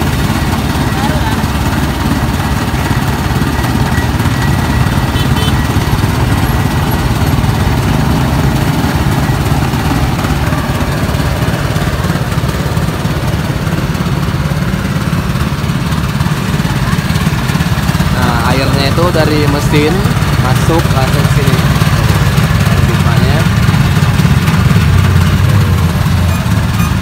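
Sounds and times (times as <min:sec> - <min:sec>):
small engine droning: 0:00.0 - 0:27.0.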